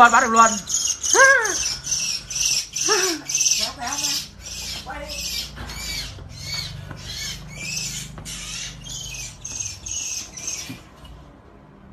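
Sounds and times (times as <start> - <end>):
bird distress calls: 0.0 - 11.0.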